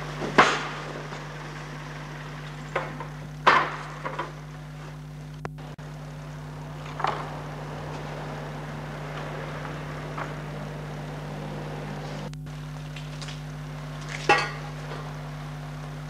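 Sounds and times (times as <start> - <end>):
low hum with hiss: 0.0 - 16.0.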